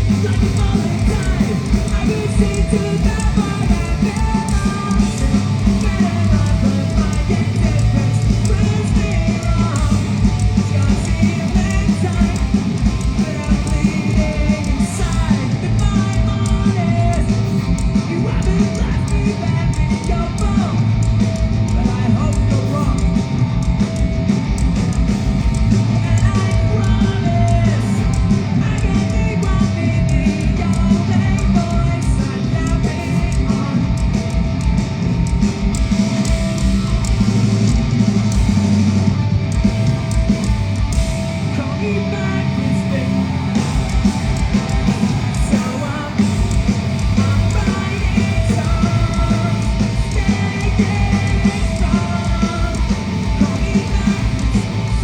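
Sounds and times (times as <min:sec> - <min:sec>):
fast kick drum: 0:00.0 - 0:41.5, 0:42.4 - 0:55.0
punk rock band playing: 0:00.0 - 0:55.0.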